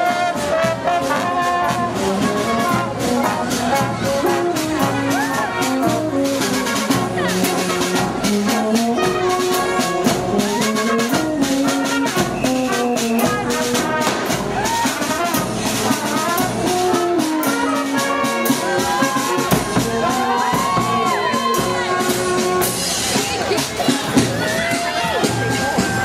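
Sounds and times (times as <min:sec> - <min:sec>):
brass band playing: 0:00.0 - 0:26.0
drums beating: 0:00.0 - 0:26.0.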